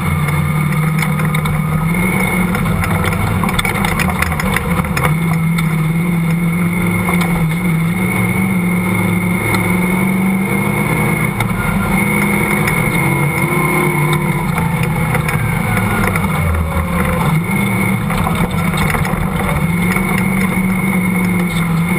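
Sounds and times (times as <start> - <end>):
off-road vehicle engine revving: 0.0 - 21.9
steady high whine: 0.0 - 21.9.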